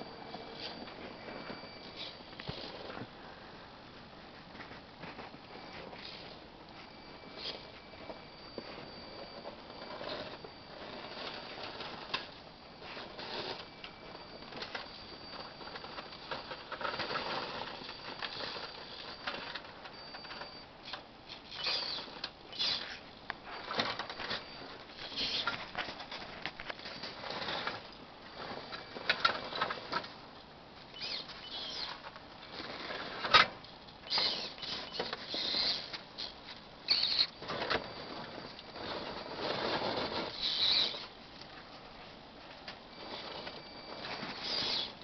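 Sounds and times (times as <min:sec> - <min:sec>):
toy car motor and gear whine: 0:00.0 - 0:03.1, 0:05.2 - 0:30.1, 0:30.9 - 0:41.2, 0:42.9 - 0:45.0.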